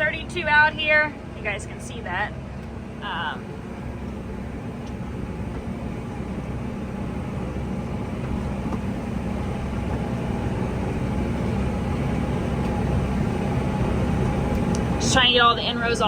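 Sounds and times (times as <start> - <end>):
tractor and baler droning: 0.0 - 16.0.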